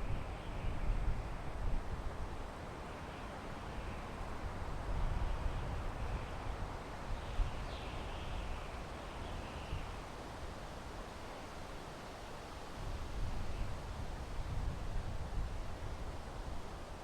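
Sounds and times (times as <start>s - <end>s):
wind through pine trees: 0.0s - 17.0s.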